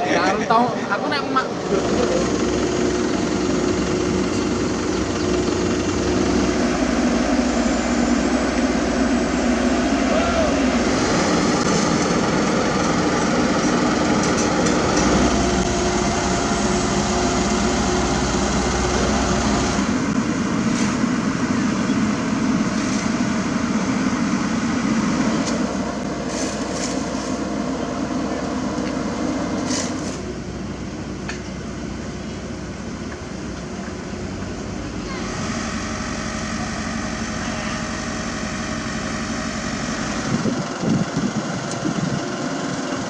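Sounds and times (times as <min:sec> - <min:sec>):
diesel engines droning: 0:00.0 - 0:43.0.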